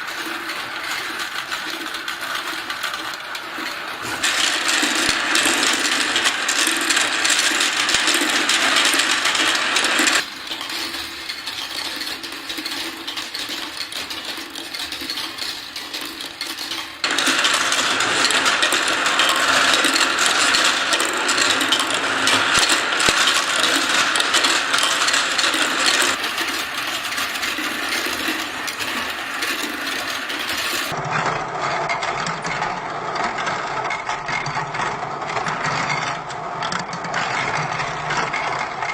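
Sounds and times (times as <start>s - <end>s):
marbles rattling on plastic track: 0.0s - 31.0s, 31.8s - 38.9s.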